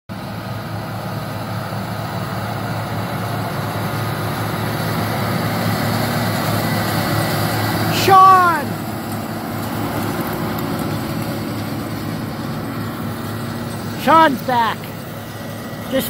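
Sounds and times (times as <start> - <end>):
vehicle engine running: 0.1 - 16.0.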